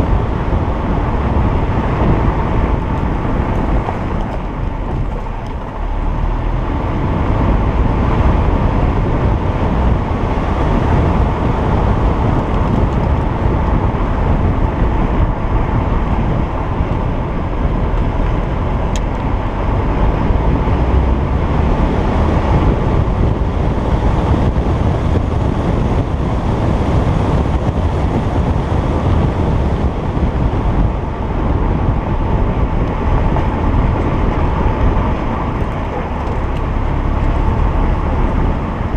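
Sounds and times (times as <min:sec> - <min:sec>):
car engine running: 0:00.0 - 0:38.9
road and wind noise: 0:00.0 - 0:38.9.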